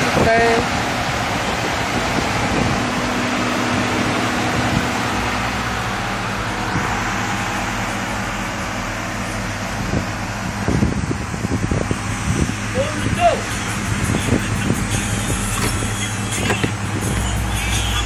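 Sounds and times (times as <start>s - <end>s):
car engine idling: 0.0s - 18.0s
cooling fan whirring: 0.0s - 18.0s.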